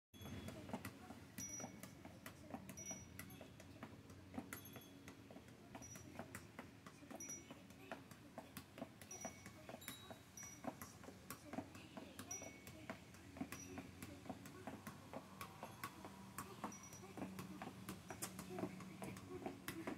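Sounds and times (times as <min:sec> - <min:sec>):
soccer ball taps: 0:00.2 - 0:19.9.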